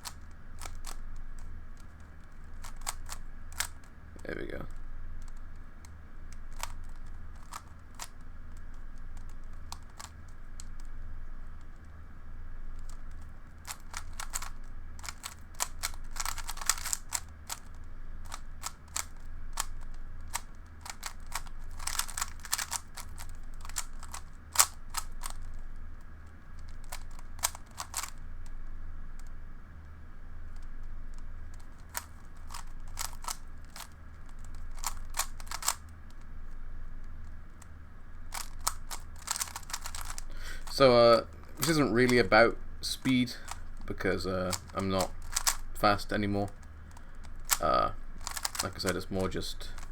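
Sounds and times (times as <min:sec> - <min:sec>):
puzzle cube clicking: 0:00.0 - 0:12.0, 0:12.7 - 0:29.4, 0:30.4 - 0:36.3, 0:37.0 - 0:49.9
low steady hum: 0:00.0 - 0:49.9
rapid clacking of puzzle cube: 0:00.0 - 0:49.9.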